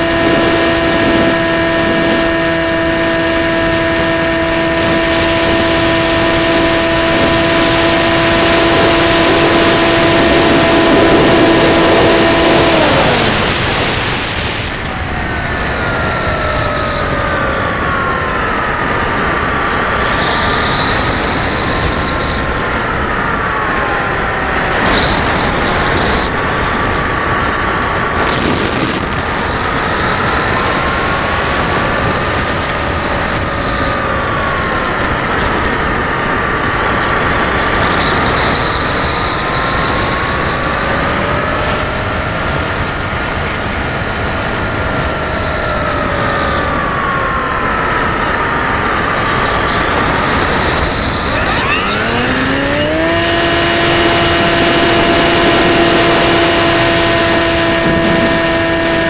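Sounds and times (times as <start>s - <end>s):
model aircraft motor whine: 0.0s - 23.1s, 23.8s - 34.6s, 37.0s - 48.4s, 49.4s - 59.0s
wind rushing on microphone: 0.0s - 59.0s.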